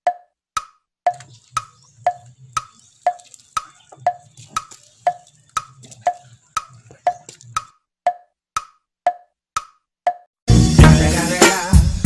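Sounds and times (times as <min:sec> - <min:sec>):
wood-block beat: 0:00.0 - 0:11.9.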